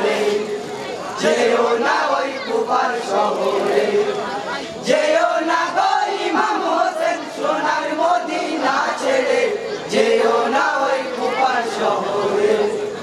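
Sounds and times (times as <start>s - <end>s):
men's chorus chanting: 0.0s - 13.0s.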